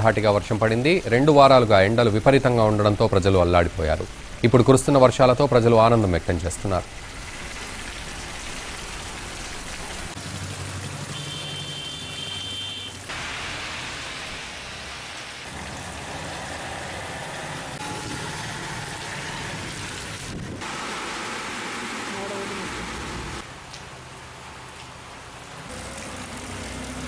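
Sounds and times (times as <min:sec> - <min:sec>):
heavy rain splashing: 0:00.0 - 0:27.0.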